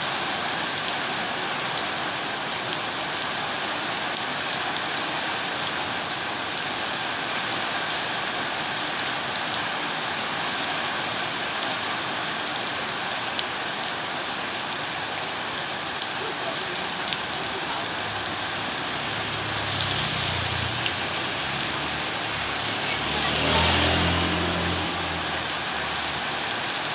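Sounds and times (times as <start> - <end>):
steady rain hiss: 0.0 - 26.9.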